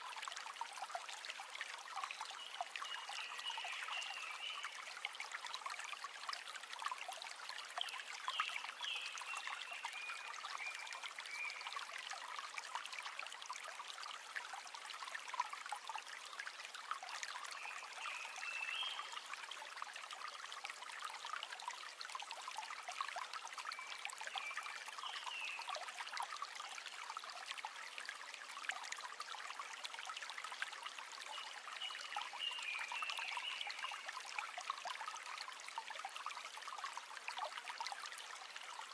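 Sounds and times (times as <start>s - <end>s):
river water running over stones: 0.0s - 38.9s.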